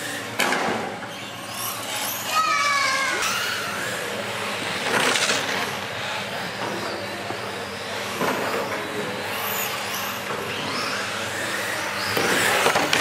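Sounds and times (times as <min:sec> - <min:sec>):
model car motors and tyres: 0:00.0 - 0:13.0.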